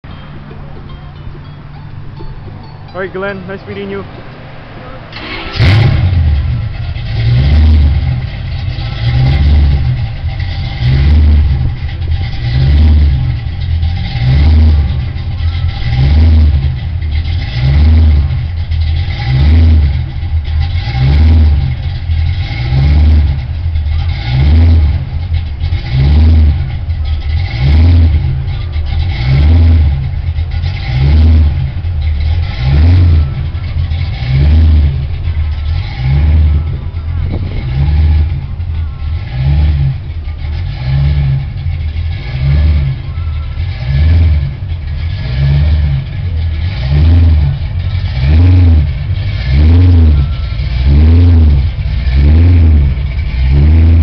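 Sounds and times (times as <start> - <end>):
car engine idling lumpily: 0.0 - 54.0.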